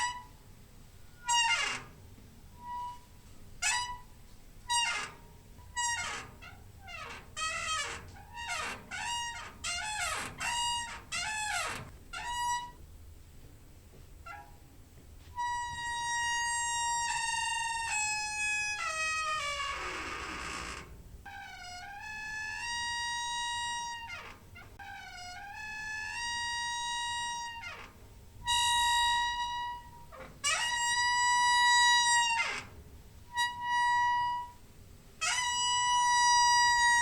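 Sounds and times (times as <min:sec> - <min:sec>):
squeaky door hinge creaking: 0:00.0 - 0:00.4, 0:01.2 - 0:12.8, 0:14.2 - 0:14.7, 0:15.4 - 0:37.0.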